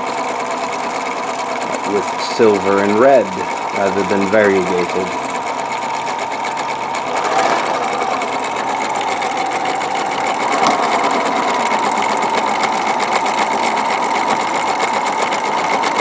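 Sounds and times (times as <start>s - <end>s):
sewing machine running: 0.0s - 16.0s.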